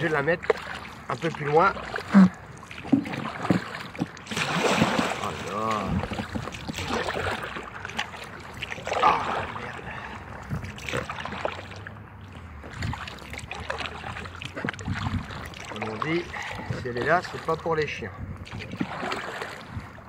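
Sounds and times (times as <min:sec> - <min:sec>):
kayak paddle splashing in water: 0:00.0 - 0:17.7, 0:18.4 - 0:20.0.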